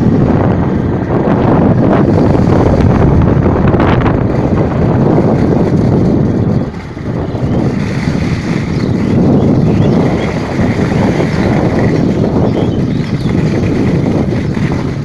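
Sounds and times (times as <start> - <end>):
heavy rain: 0.0 - 15.0
wind buffeting microphone: 0.0 - 15.0.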